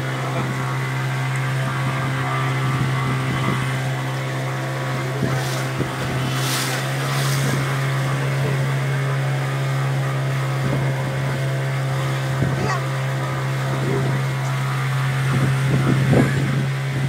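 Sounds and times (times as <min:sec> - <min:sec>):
motorboat engine humming: 0:00.0 - 0:17.0.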